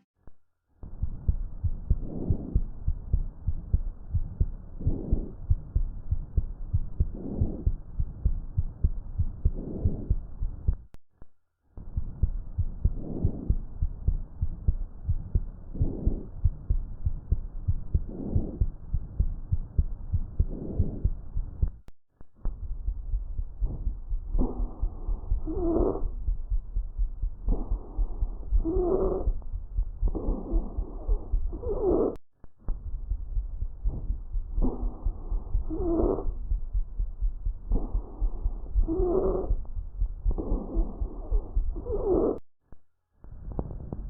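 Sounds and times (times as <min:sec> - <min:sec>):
heartbeat thuds: 0:00.8 - 0:11.0, 0:11.8 - 0:42.4.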